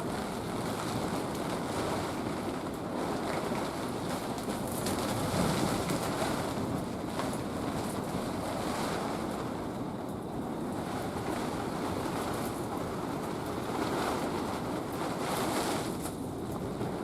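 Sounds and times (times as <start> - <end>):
rain pattering on fabric: 0.0 - 17.0.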